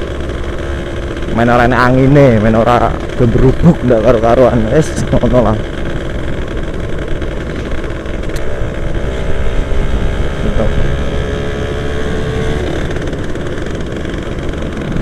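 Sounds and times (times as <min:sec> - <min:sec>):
motorcycle engine running: 0:00.0 - 0:15.0
road and wind rumble: 0:00.0 - 0:15.0.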